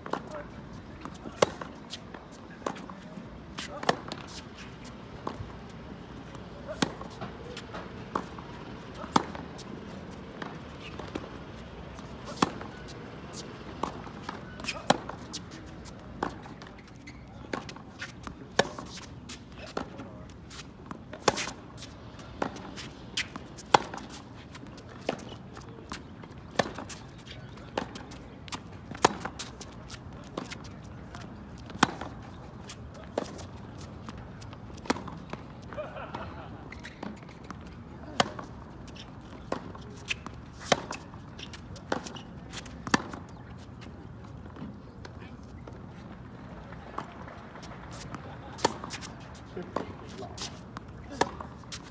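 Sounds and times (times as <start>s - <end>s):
racquets hitting tennis balls: 0.0s - 51.9s
shoes shuffling on hard court: 0.0s - 51.9s
tennis ball bouncing: 0.0s - 51.9s.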